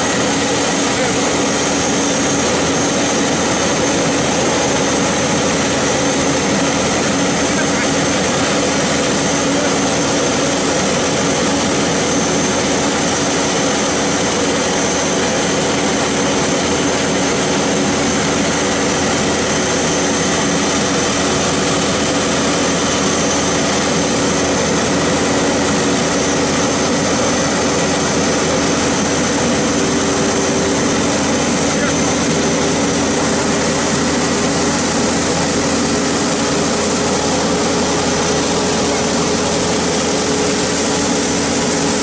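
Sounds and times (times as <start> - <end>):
combine harvester running: 0.0 - 42.0
high machine whine: 0.0 - 42.0.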